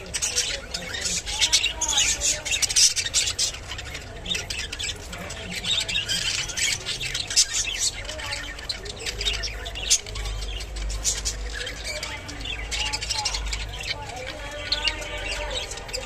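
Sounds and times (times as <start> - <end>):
budgerigars chattering and squawking: 0.0 - 16.0.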